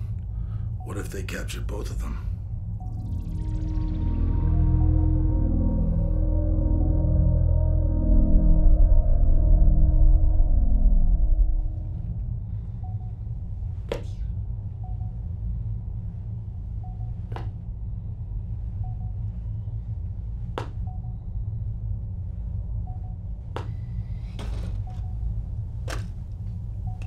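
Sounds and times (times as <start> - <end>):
low cabin hum: 0.0 - 27.0.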